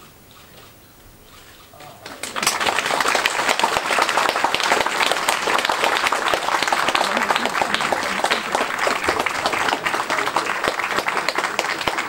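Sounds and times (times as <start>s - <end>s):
crowd clapping: 1.8s - 12.0s.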